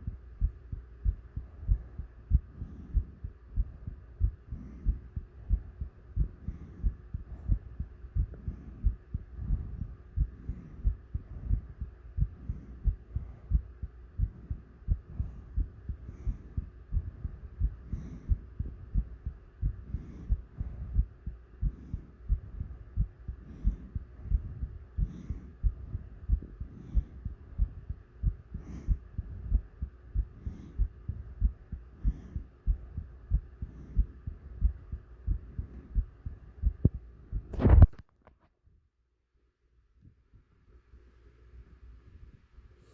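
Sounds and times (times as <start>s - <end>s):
heartbeat thumps: 0.0s - 38.0s
faint steady hum: 0.0s - 42.9s.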